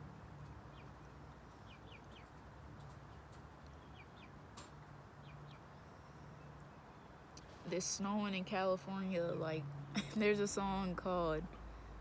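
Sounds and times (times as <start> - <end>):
low steady hum and hiss: 0.0 - 12.0.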